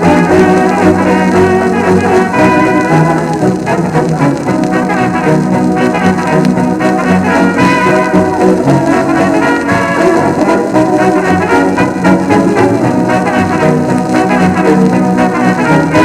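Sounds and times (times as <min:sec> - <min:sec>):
brass leading the tune: 0:00.0 - 0:16.0
dance band on old record: 0:00.0 - 0:16.0.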